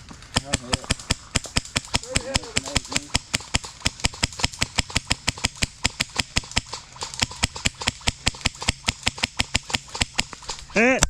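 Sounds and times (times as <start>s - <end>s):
airsoft gun automatic fire: 0.0s - 10.8s.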